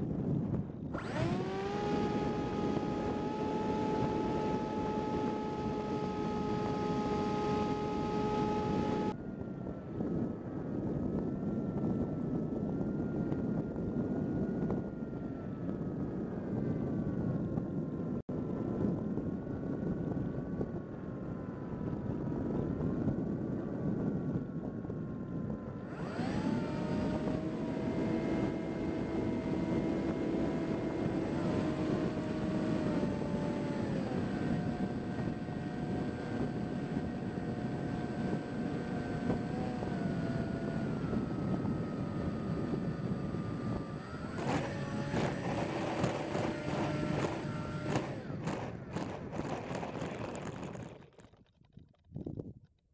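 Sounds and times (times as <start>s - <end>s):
electric motor whine: 0.0s - 51.3s.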